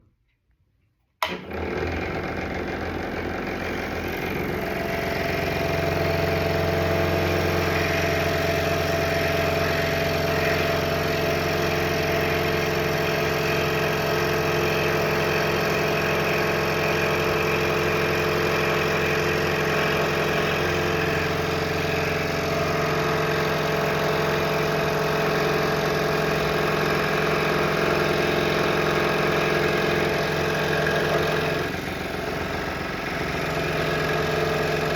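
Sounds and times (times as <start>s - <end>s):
scroll saw cutting wood: 1.2s - 34.9s.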